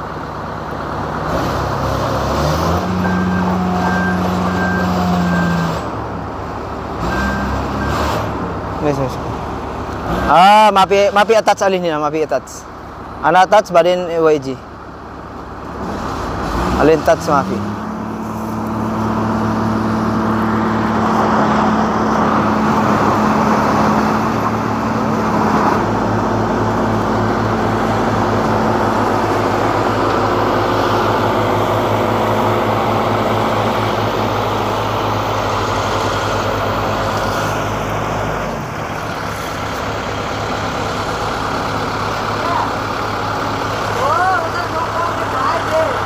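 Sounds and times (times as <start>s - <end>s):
diesel engine running under load: 0.0s - 46.0s.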